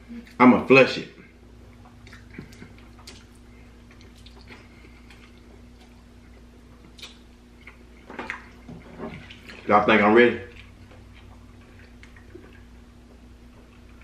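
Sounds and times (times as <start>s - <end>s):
steady low hum: 0.0s - 14.0s
man chewing and smacking: 1.6s - 9.7s, 10.4s - 14.0s.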